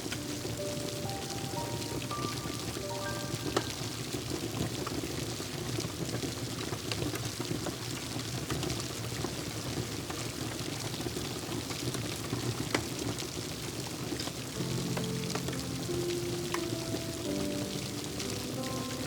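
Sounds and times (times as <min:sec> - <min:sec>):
steady rain hiss: 0:00.0 - 0:19.0
wood fire crackling: 0:00.0 - 0:19.0.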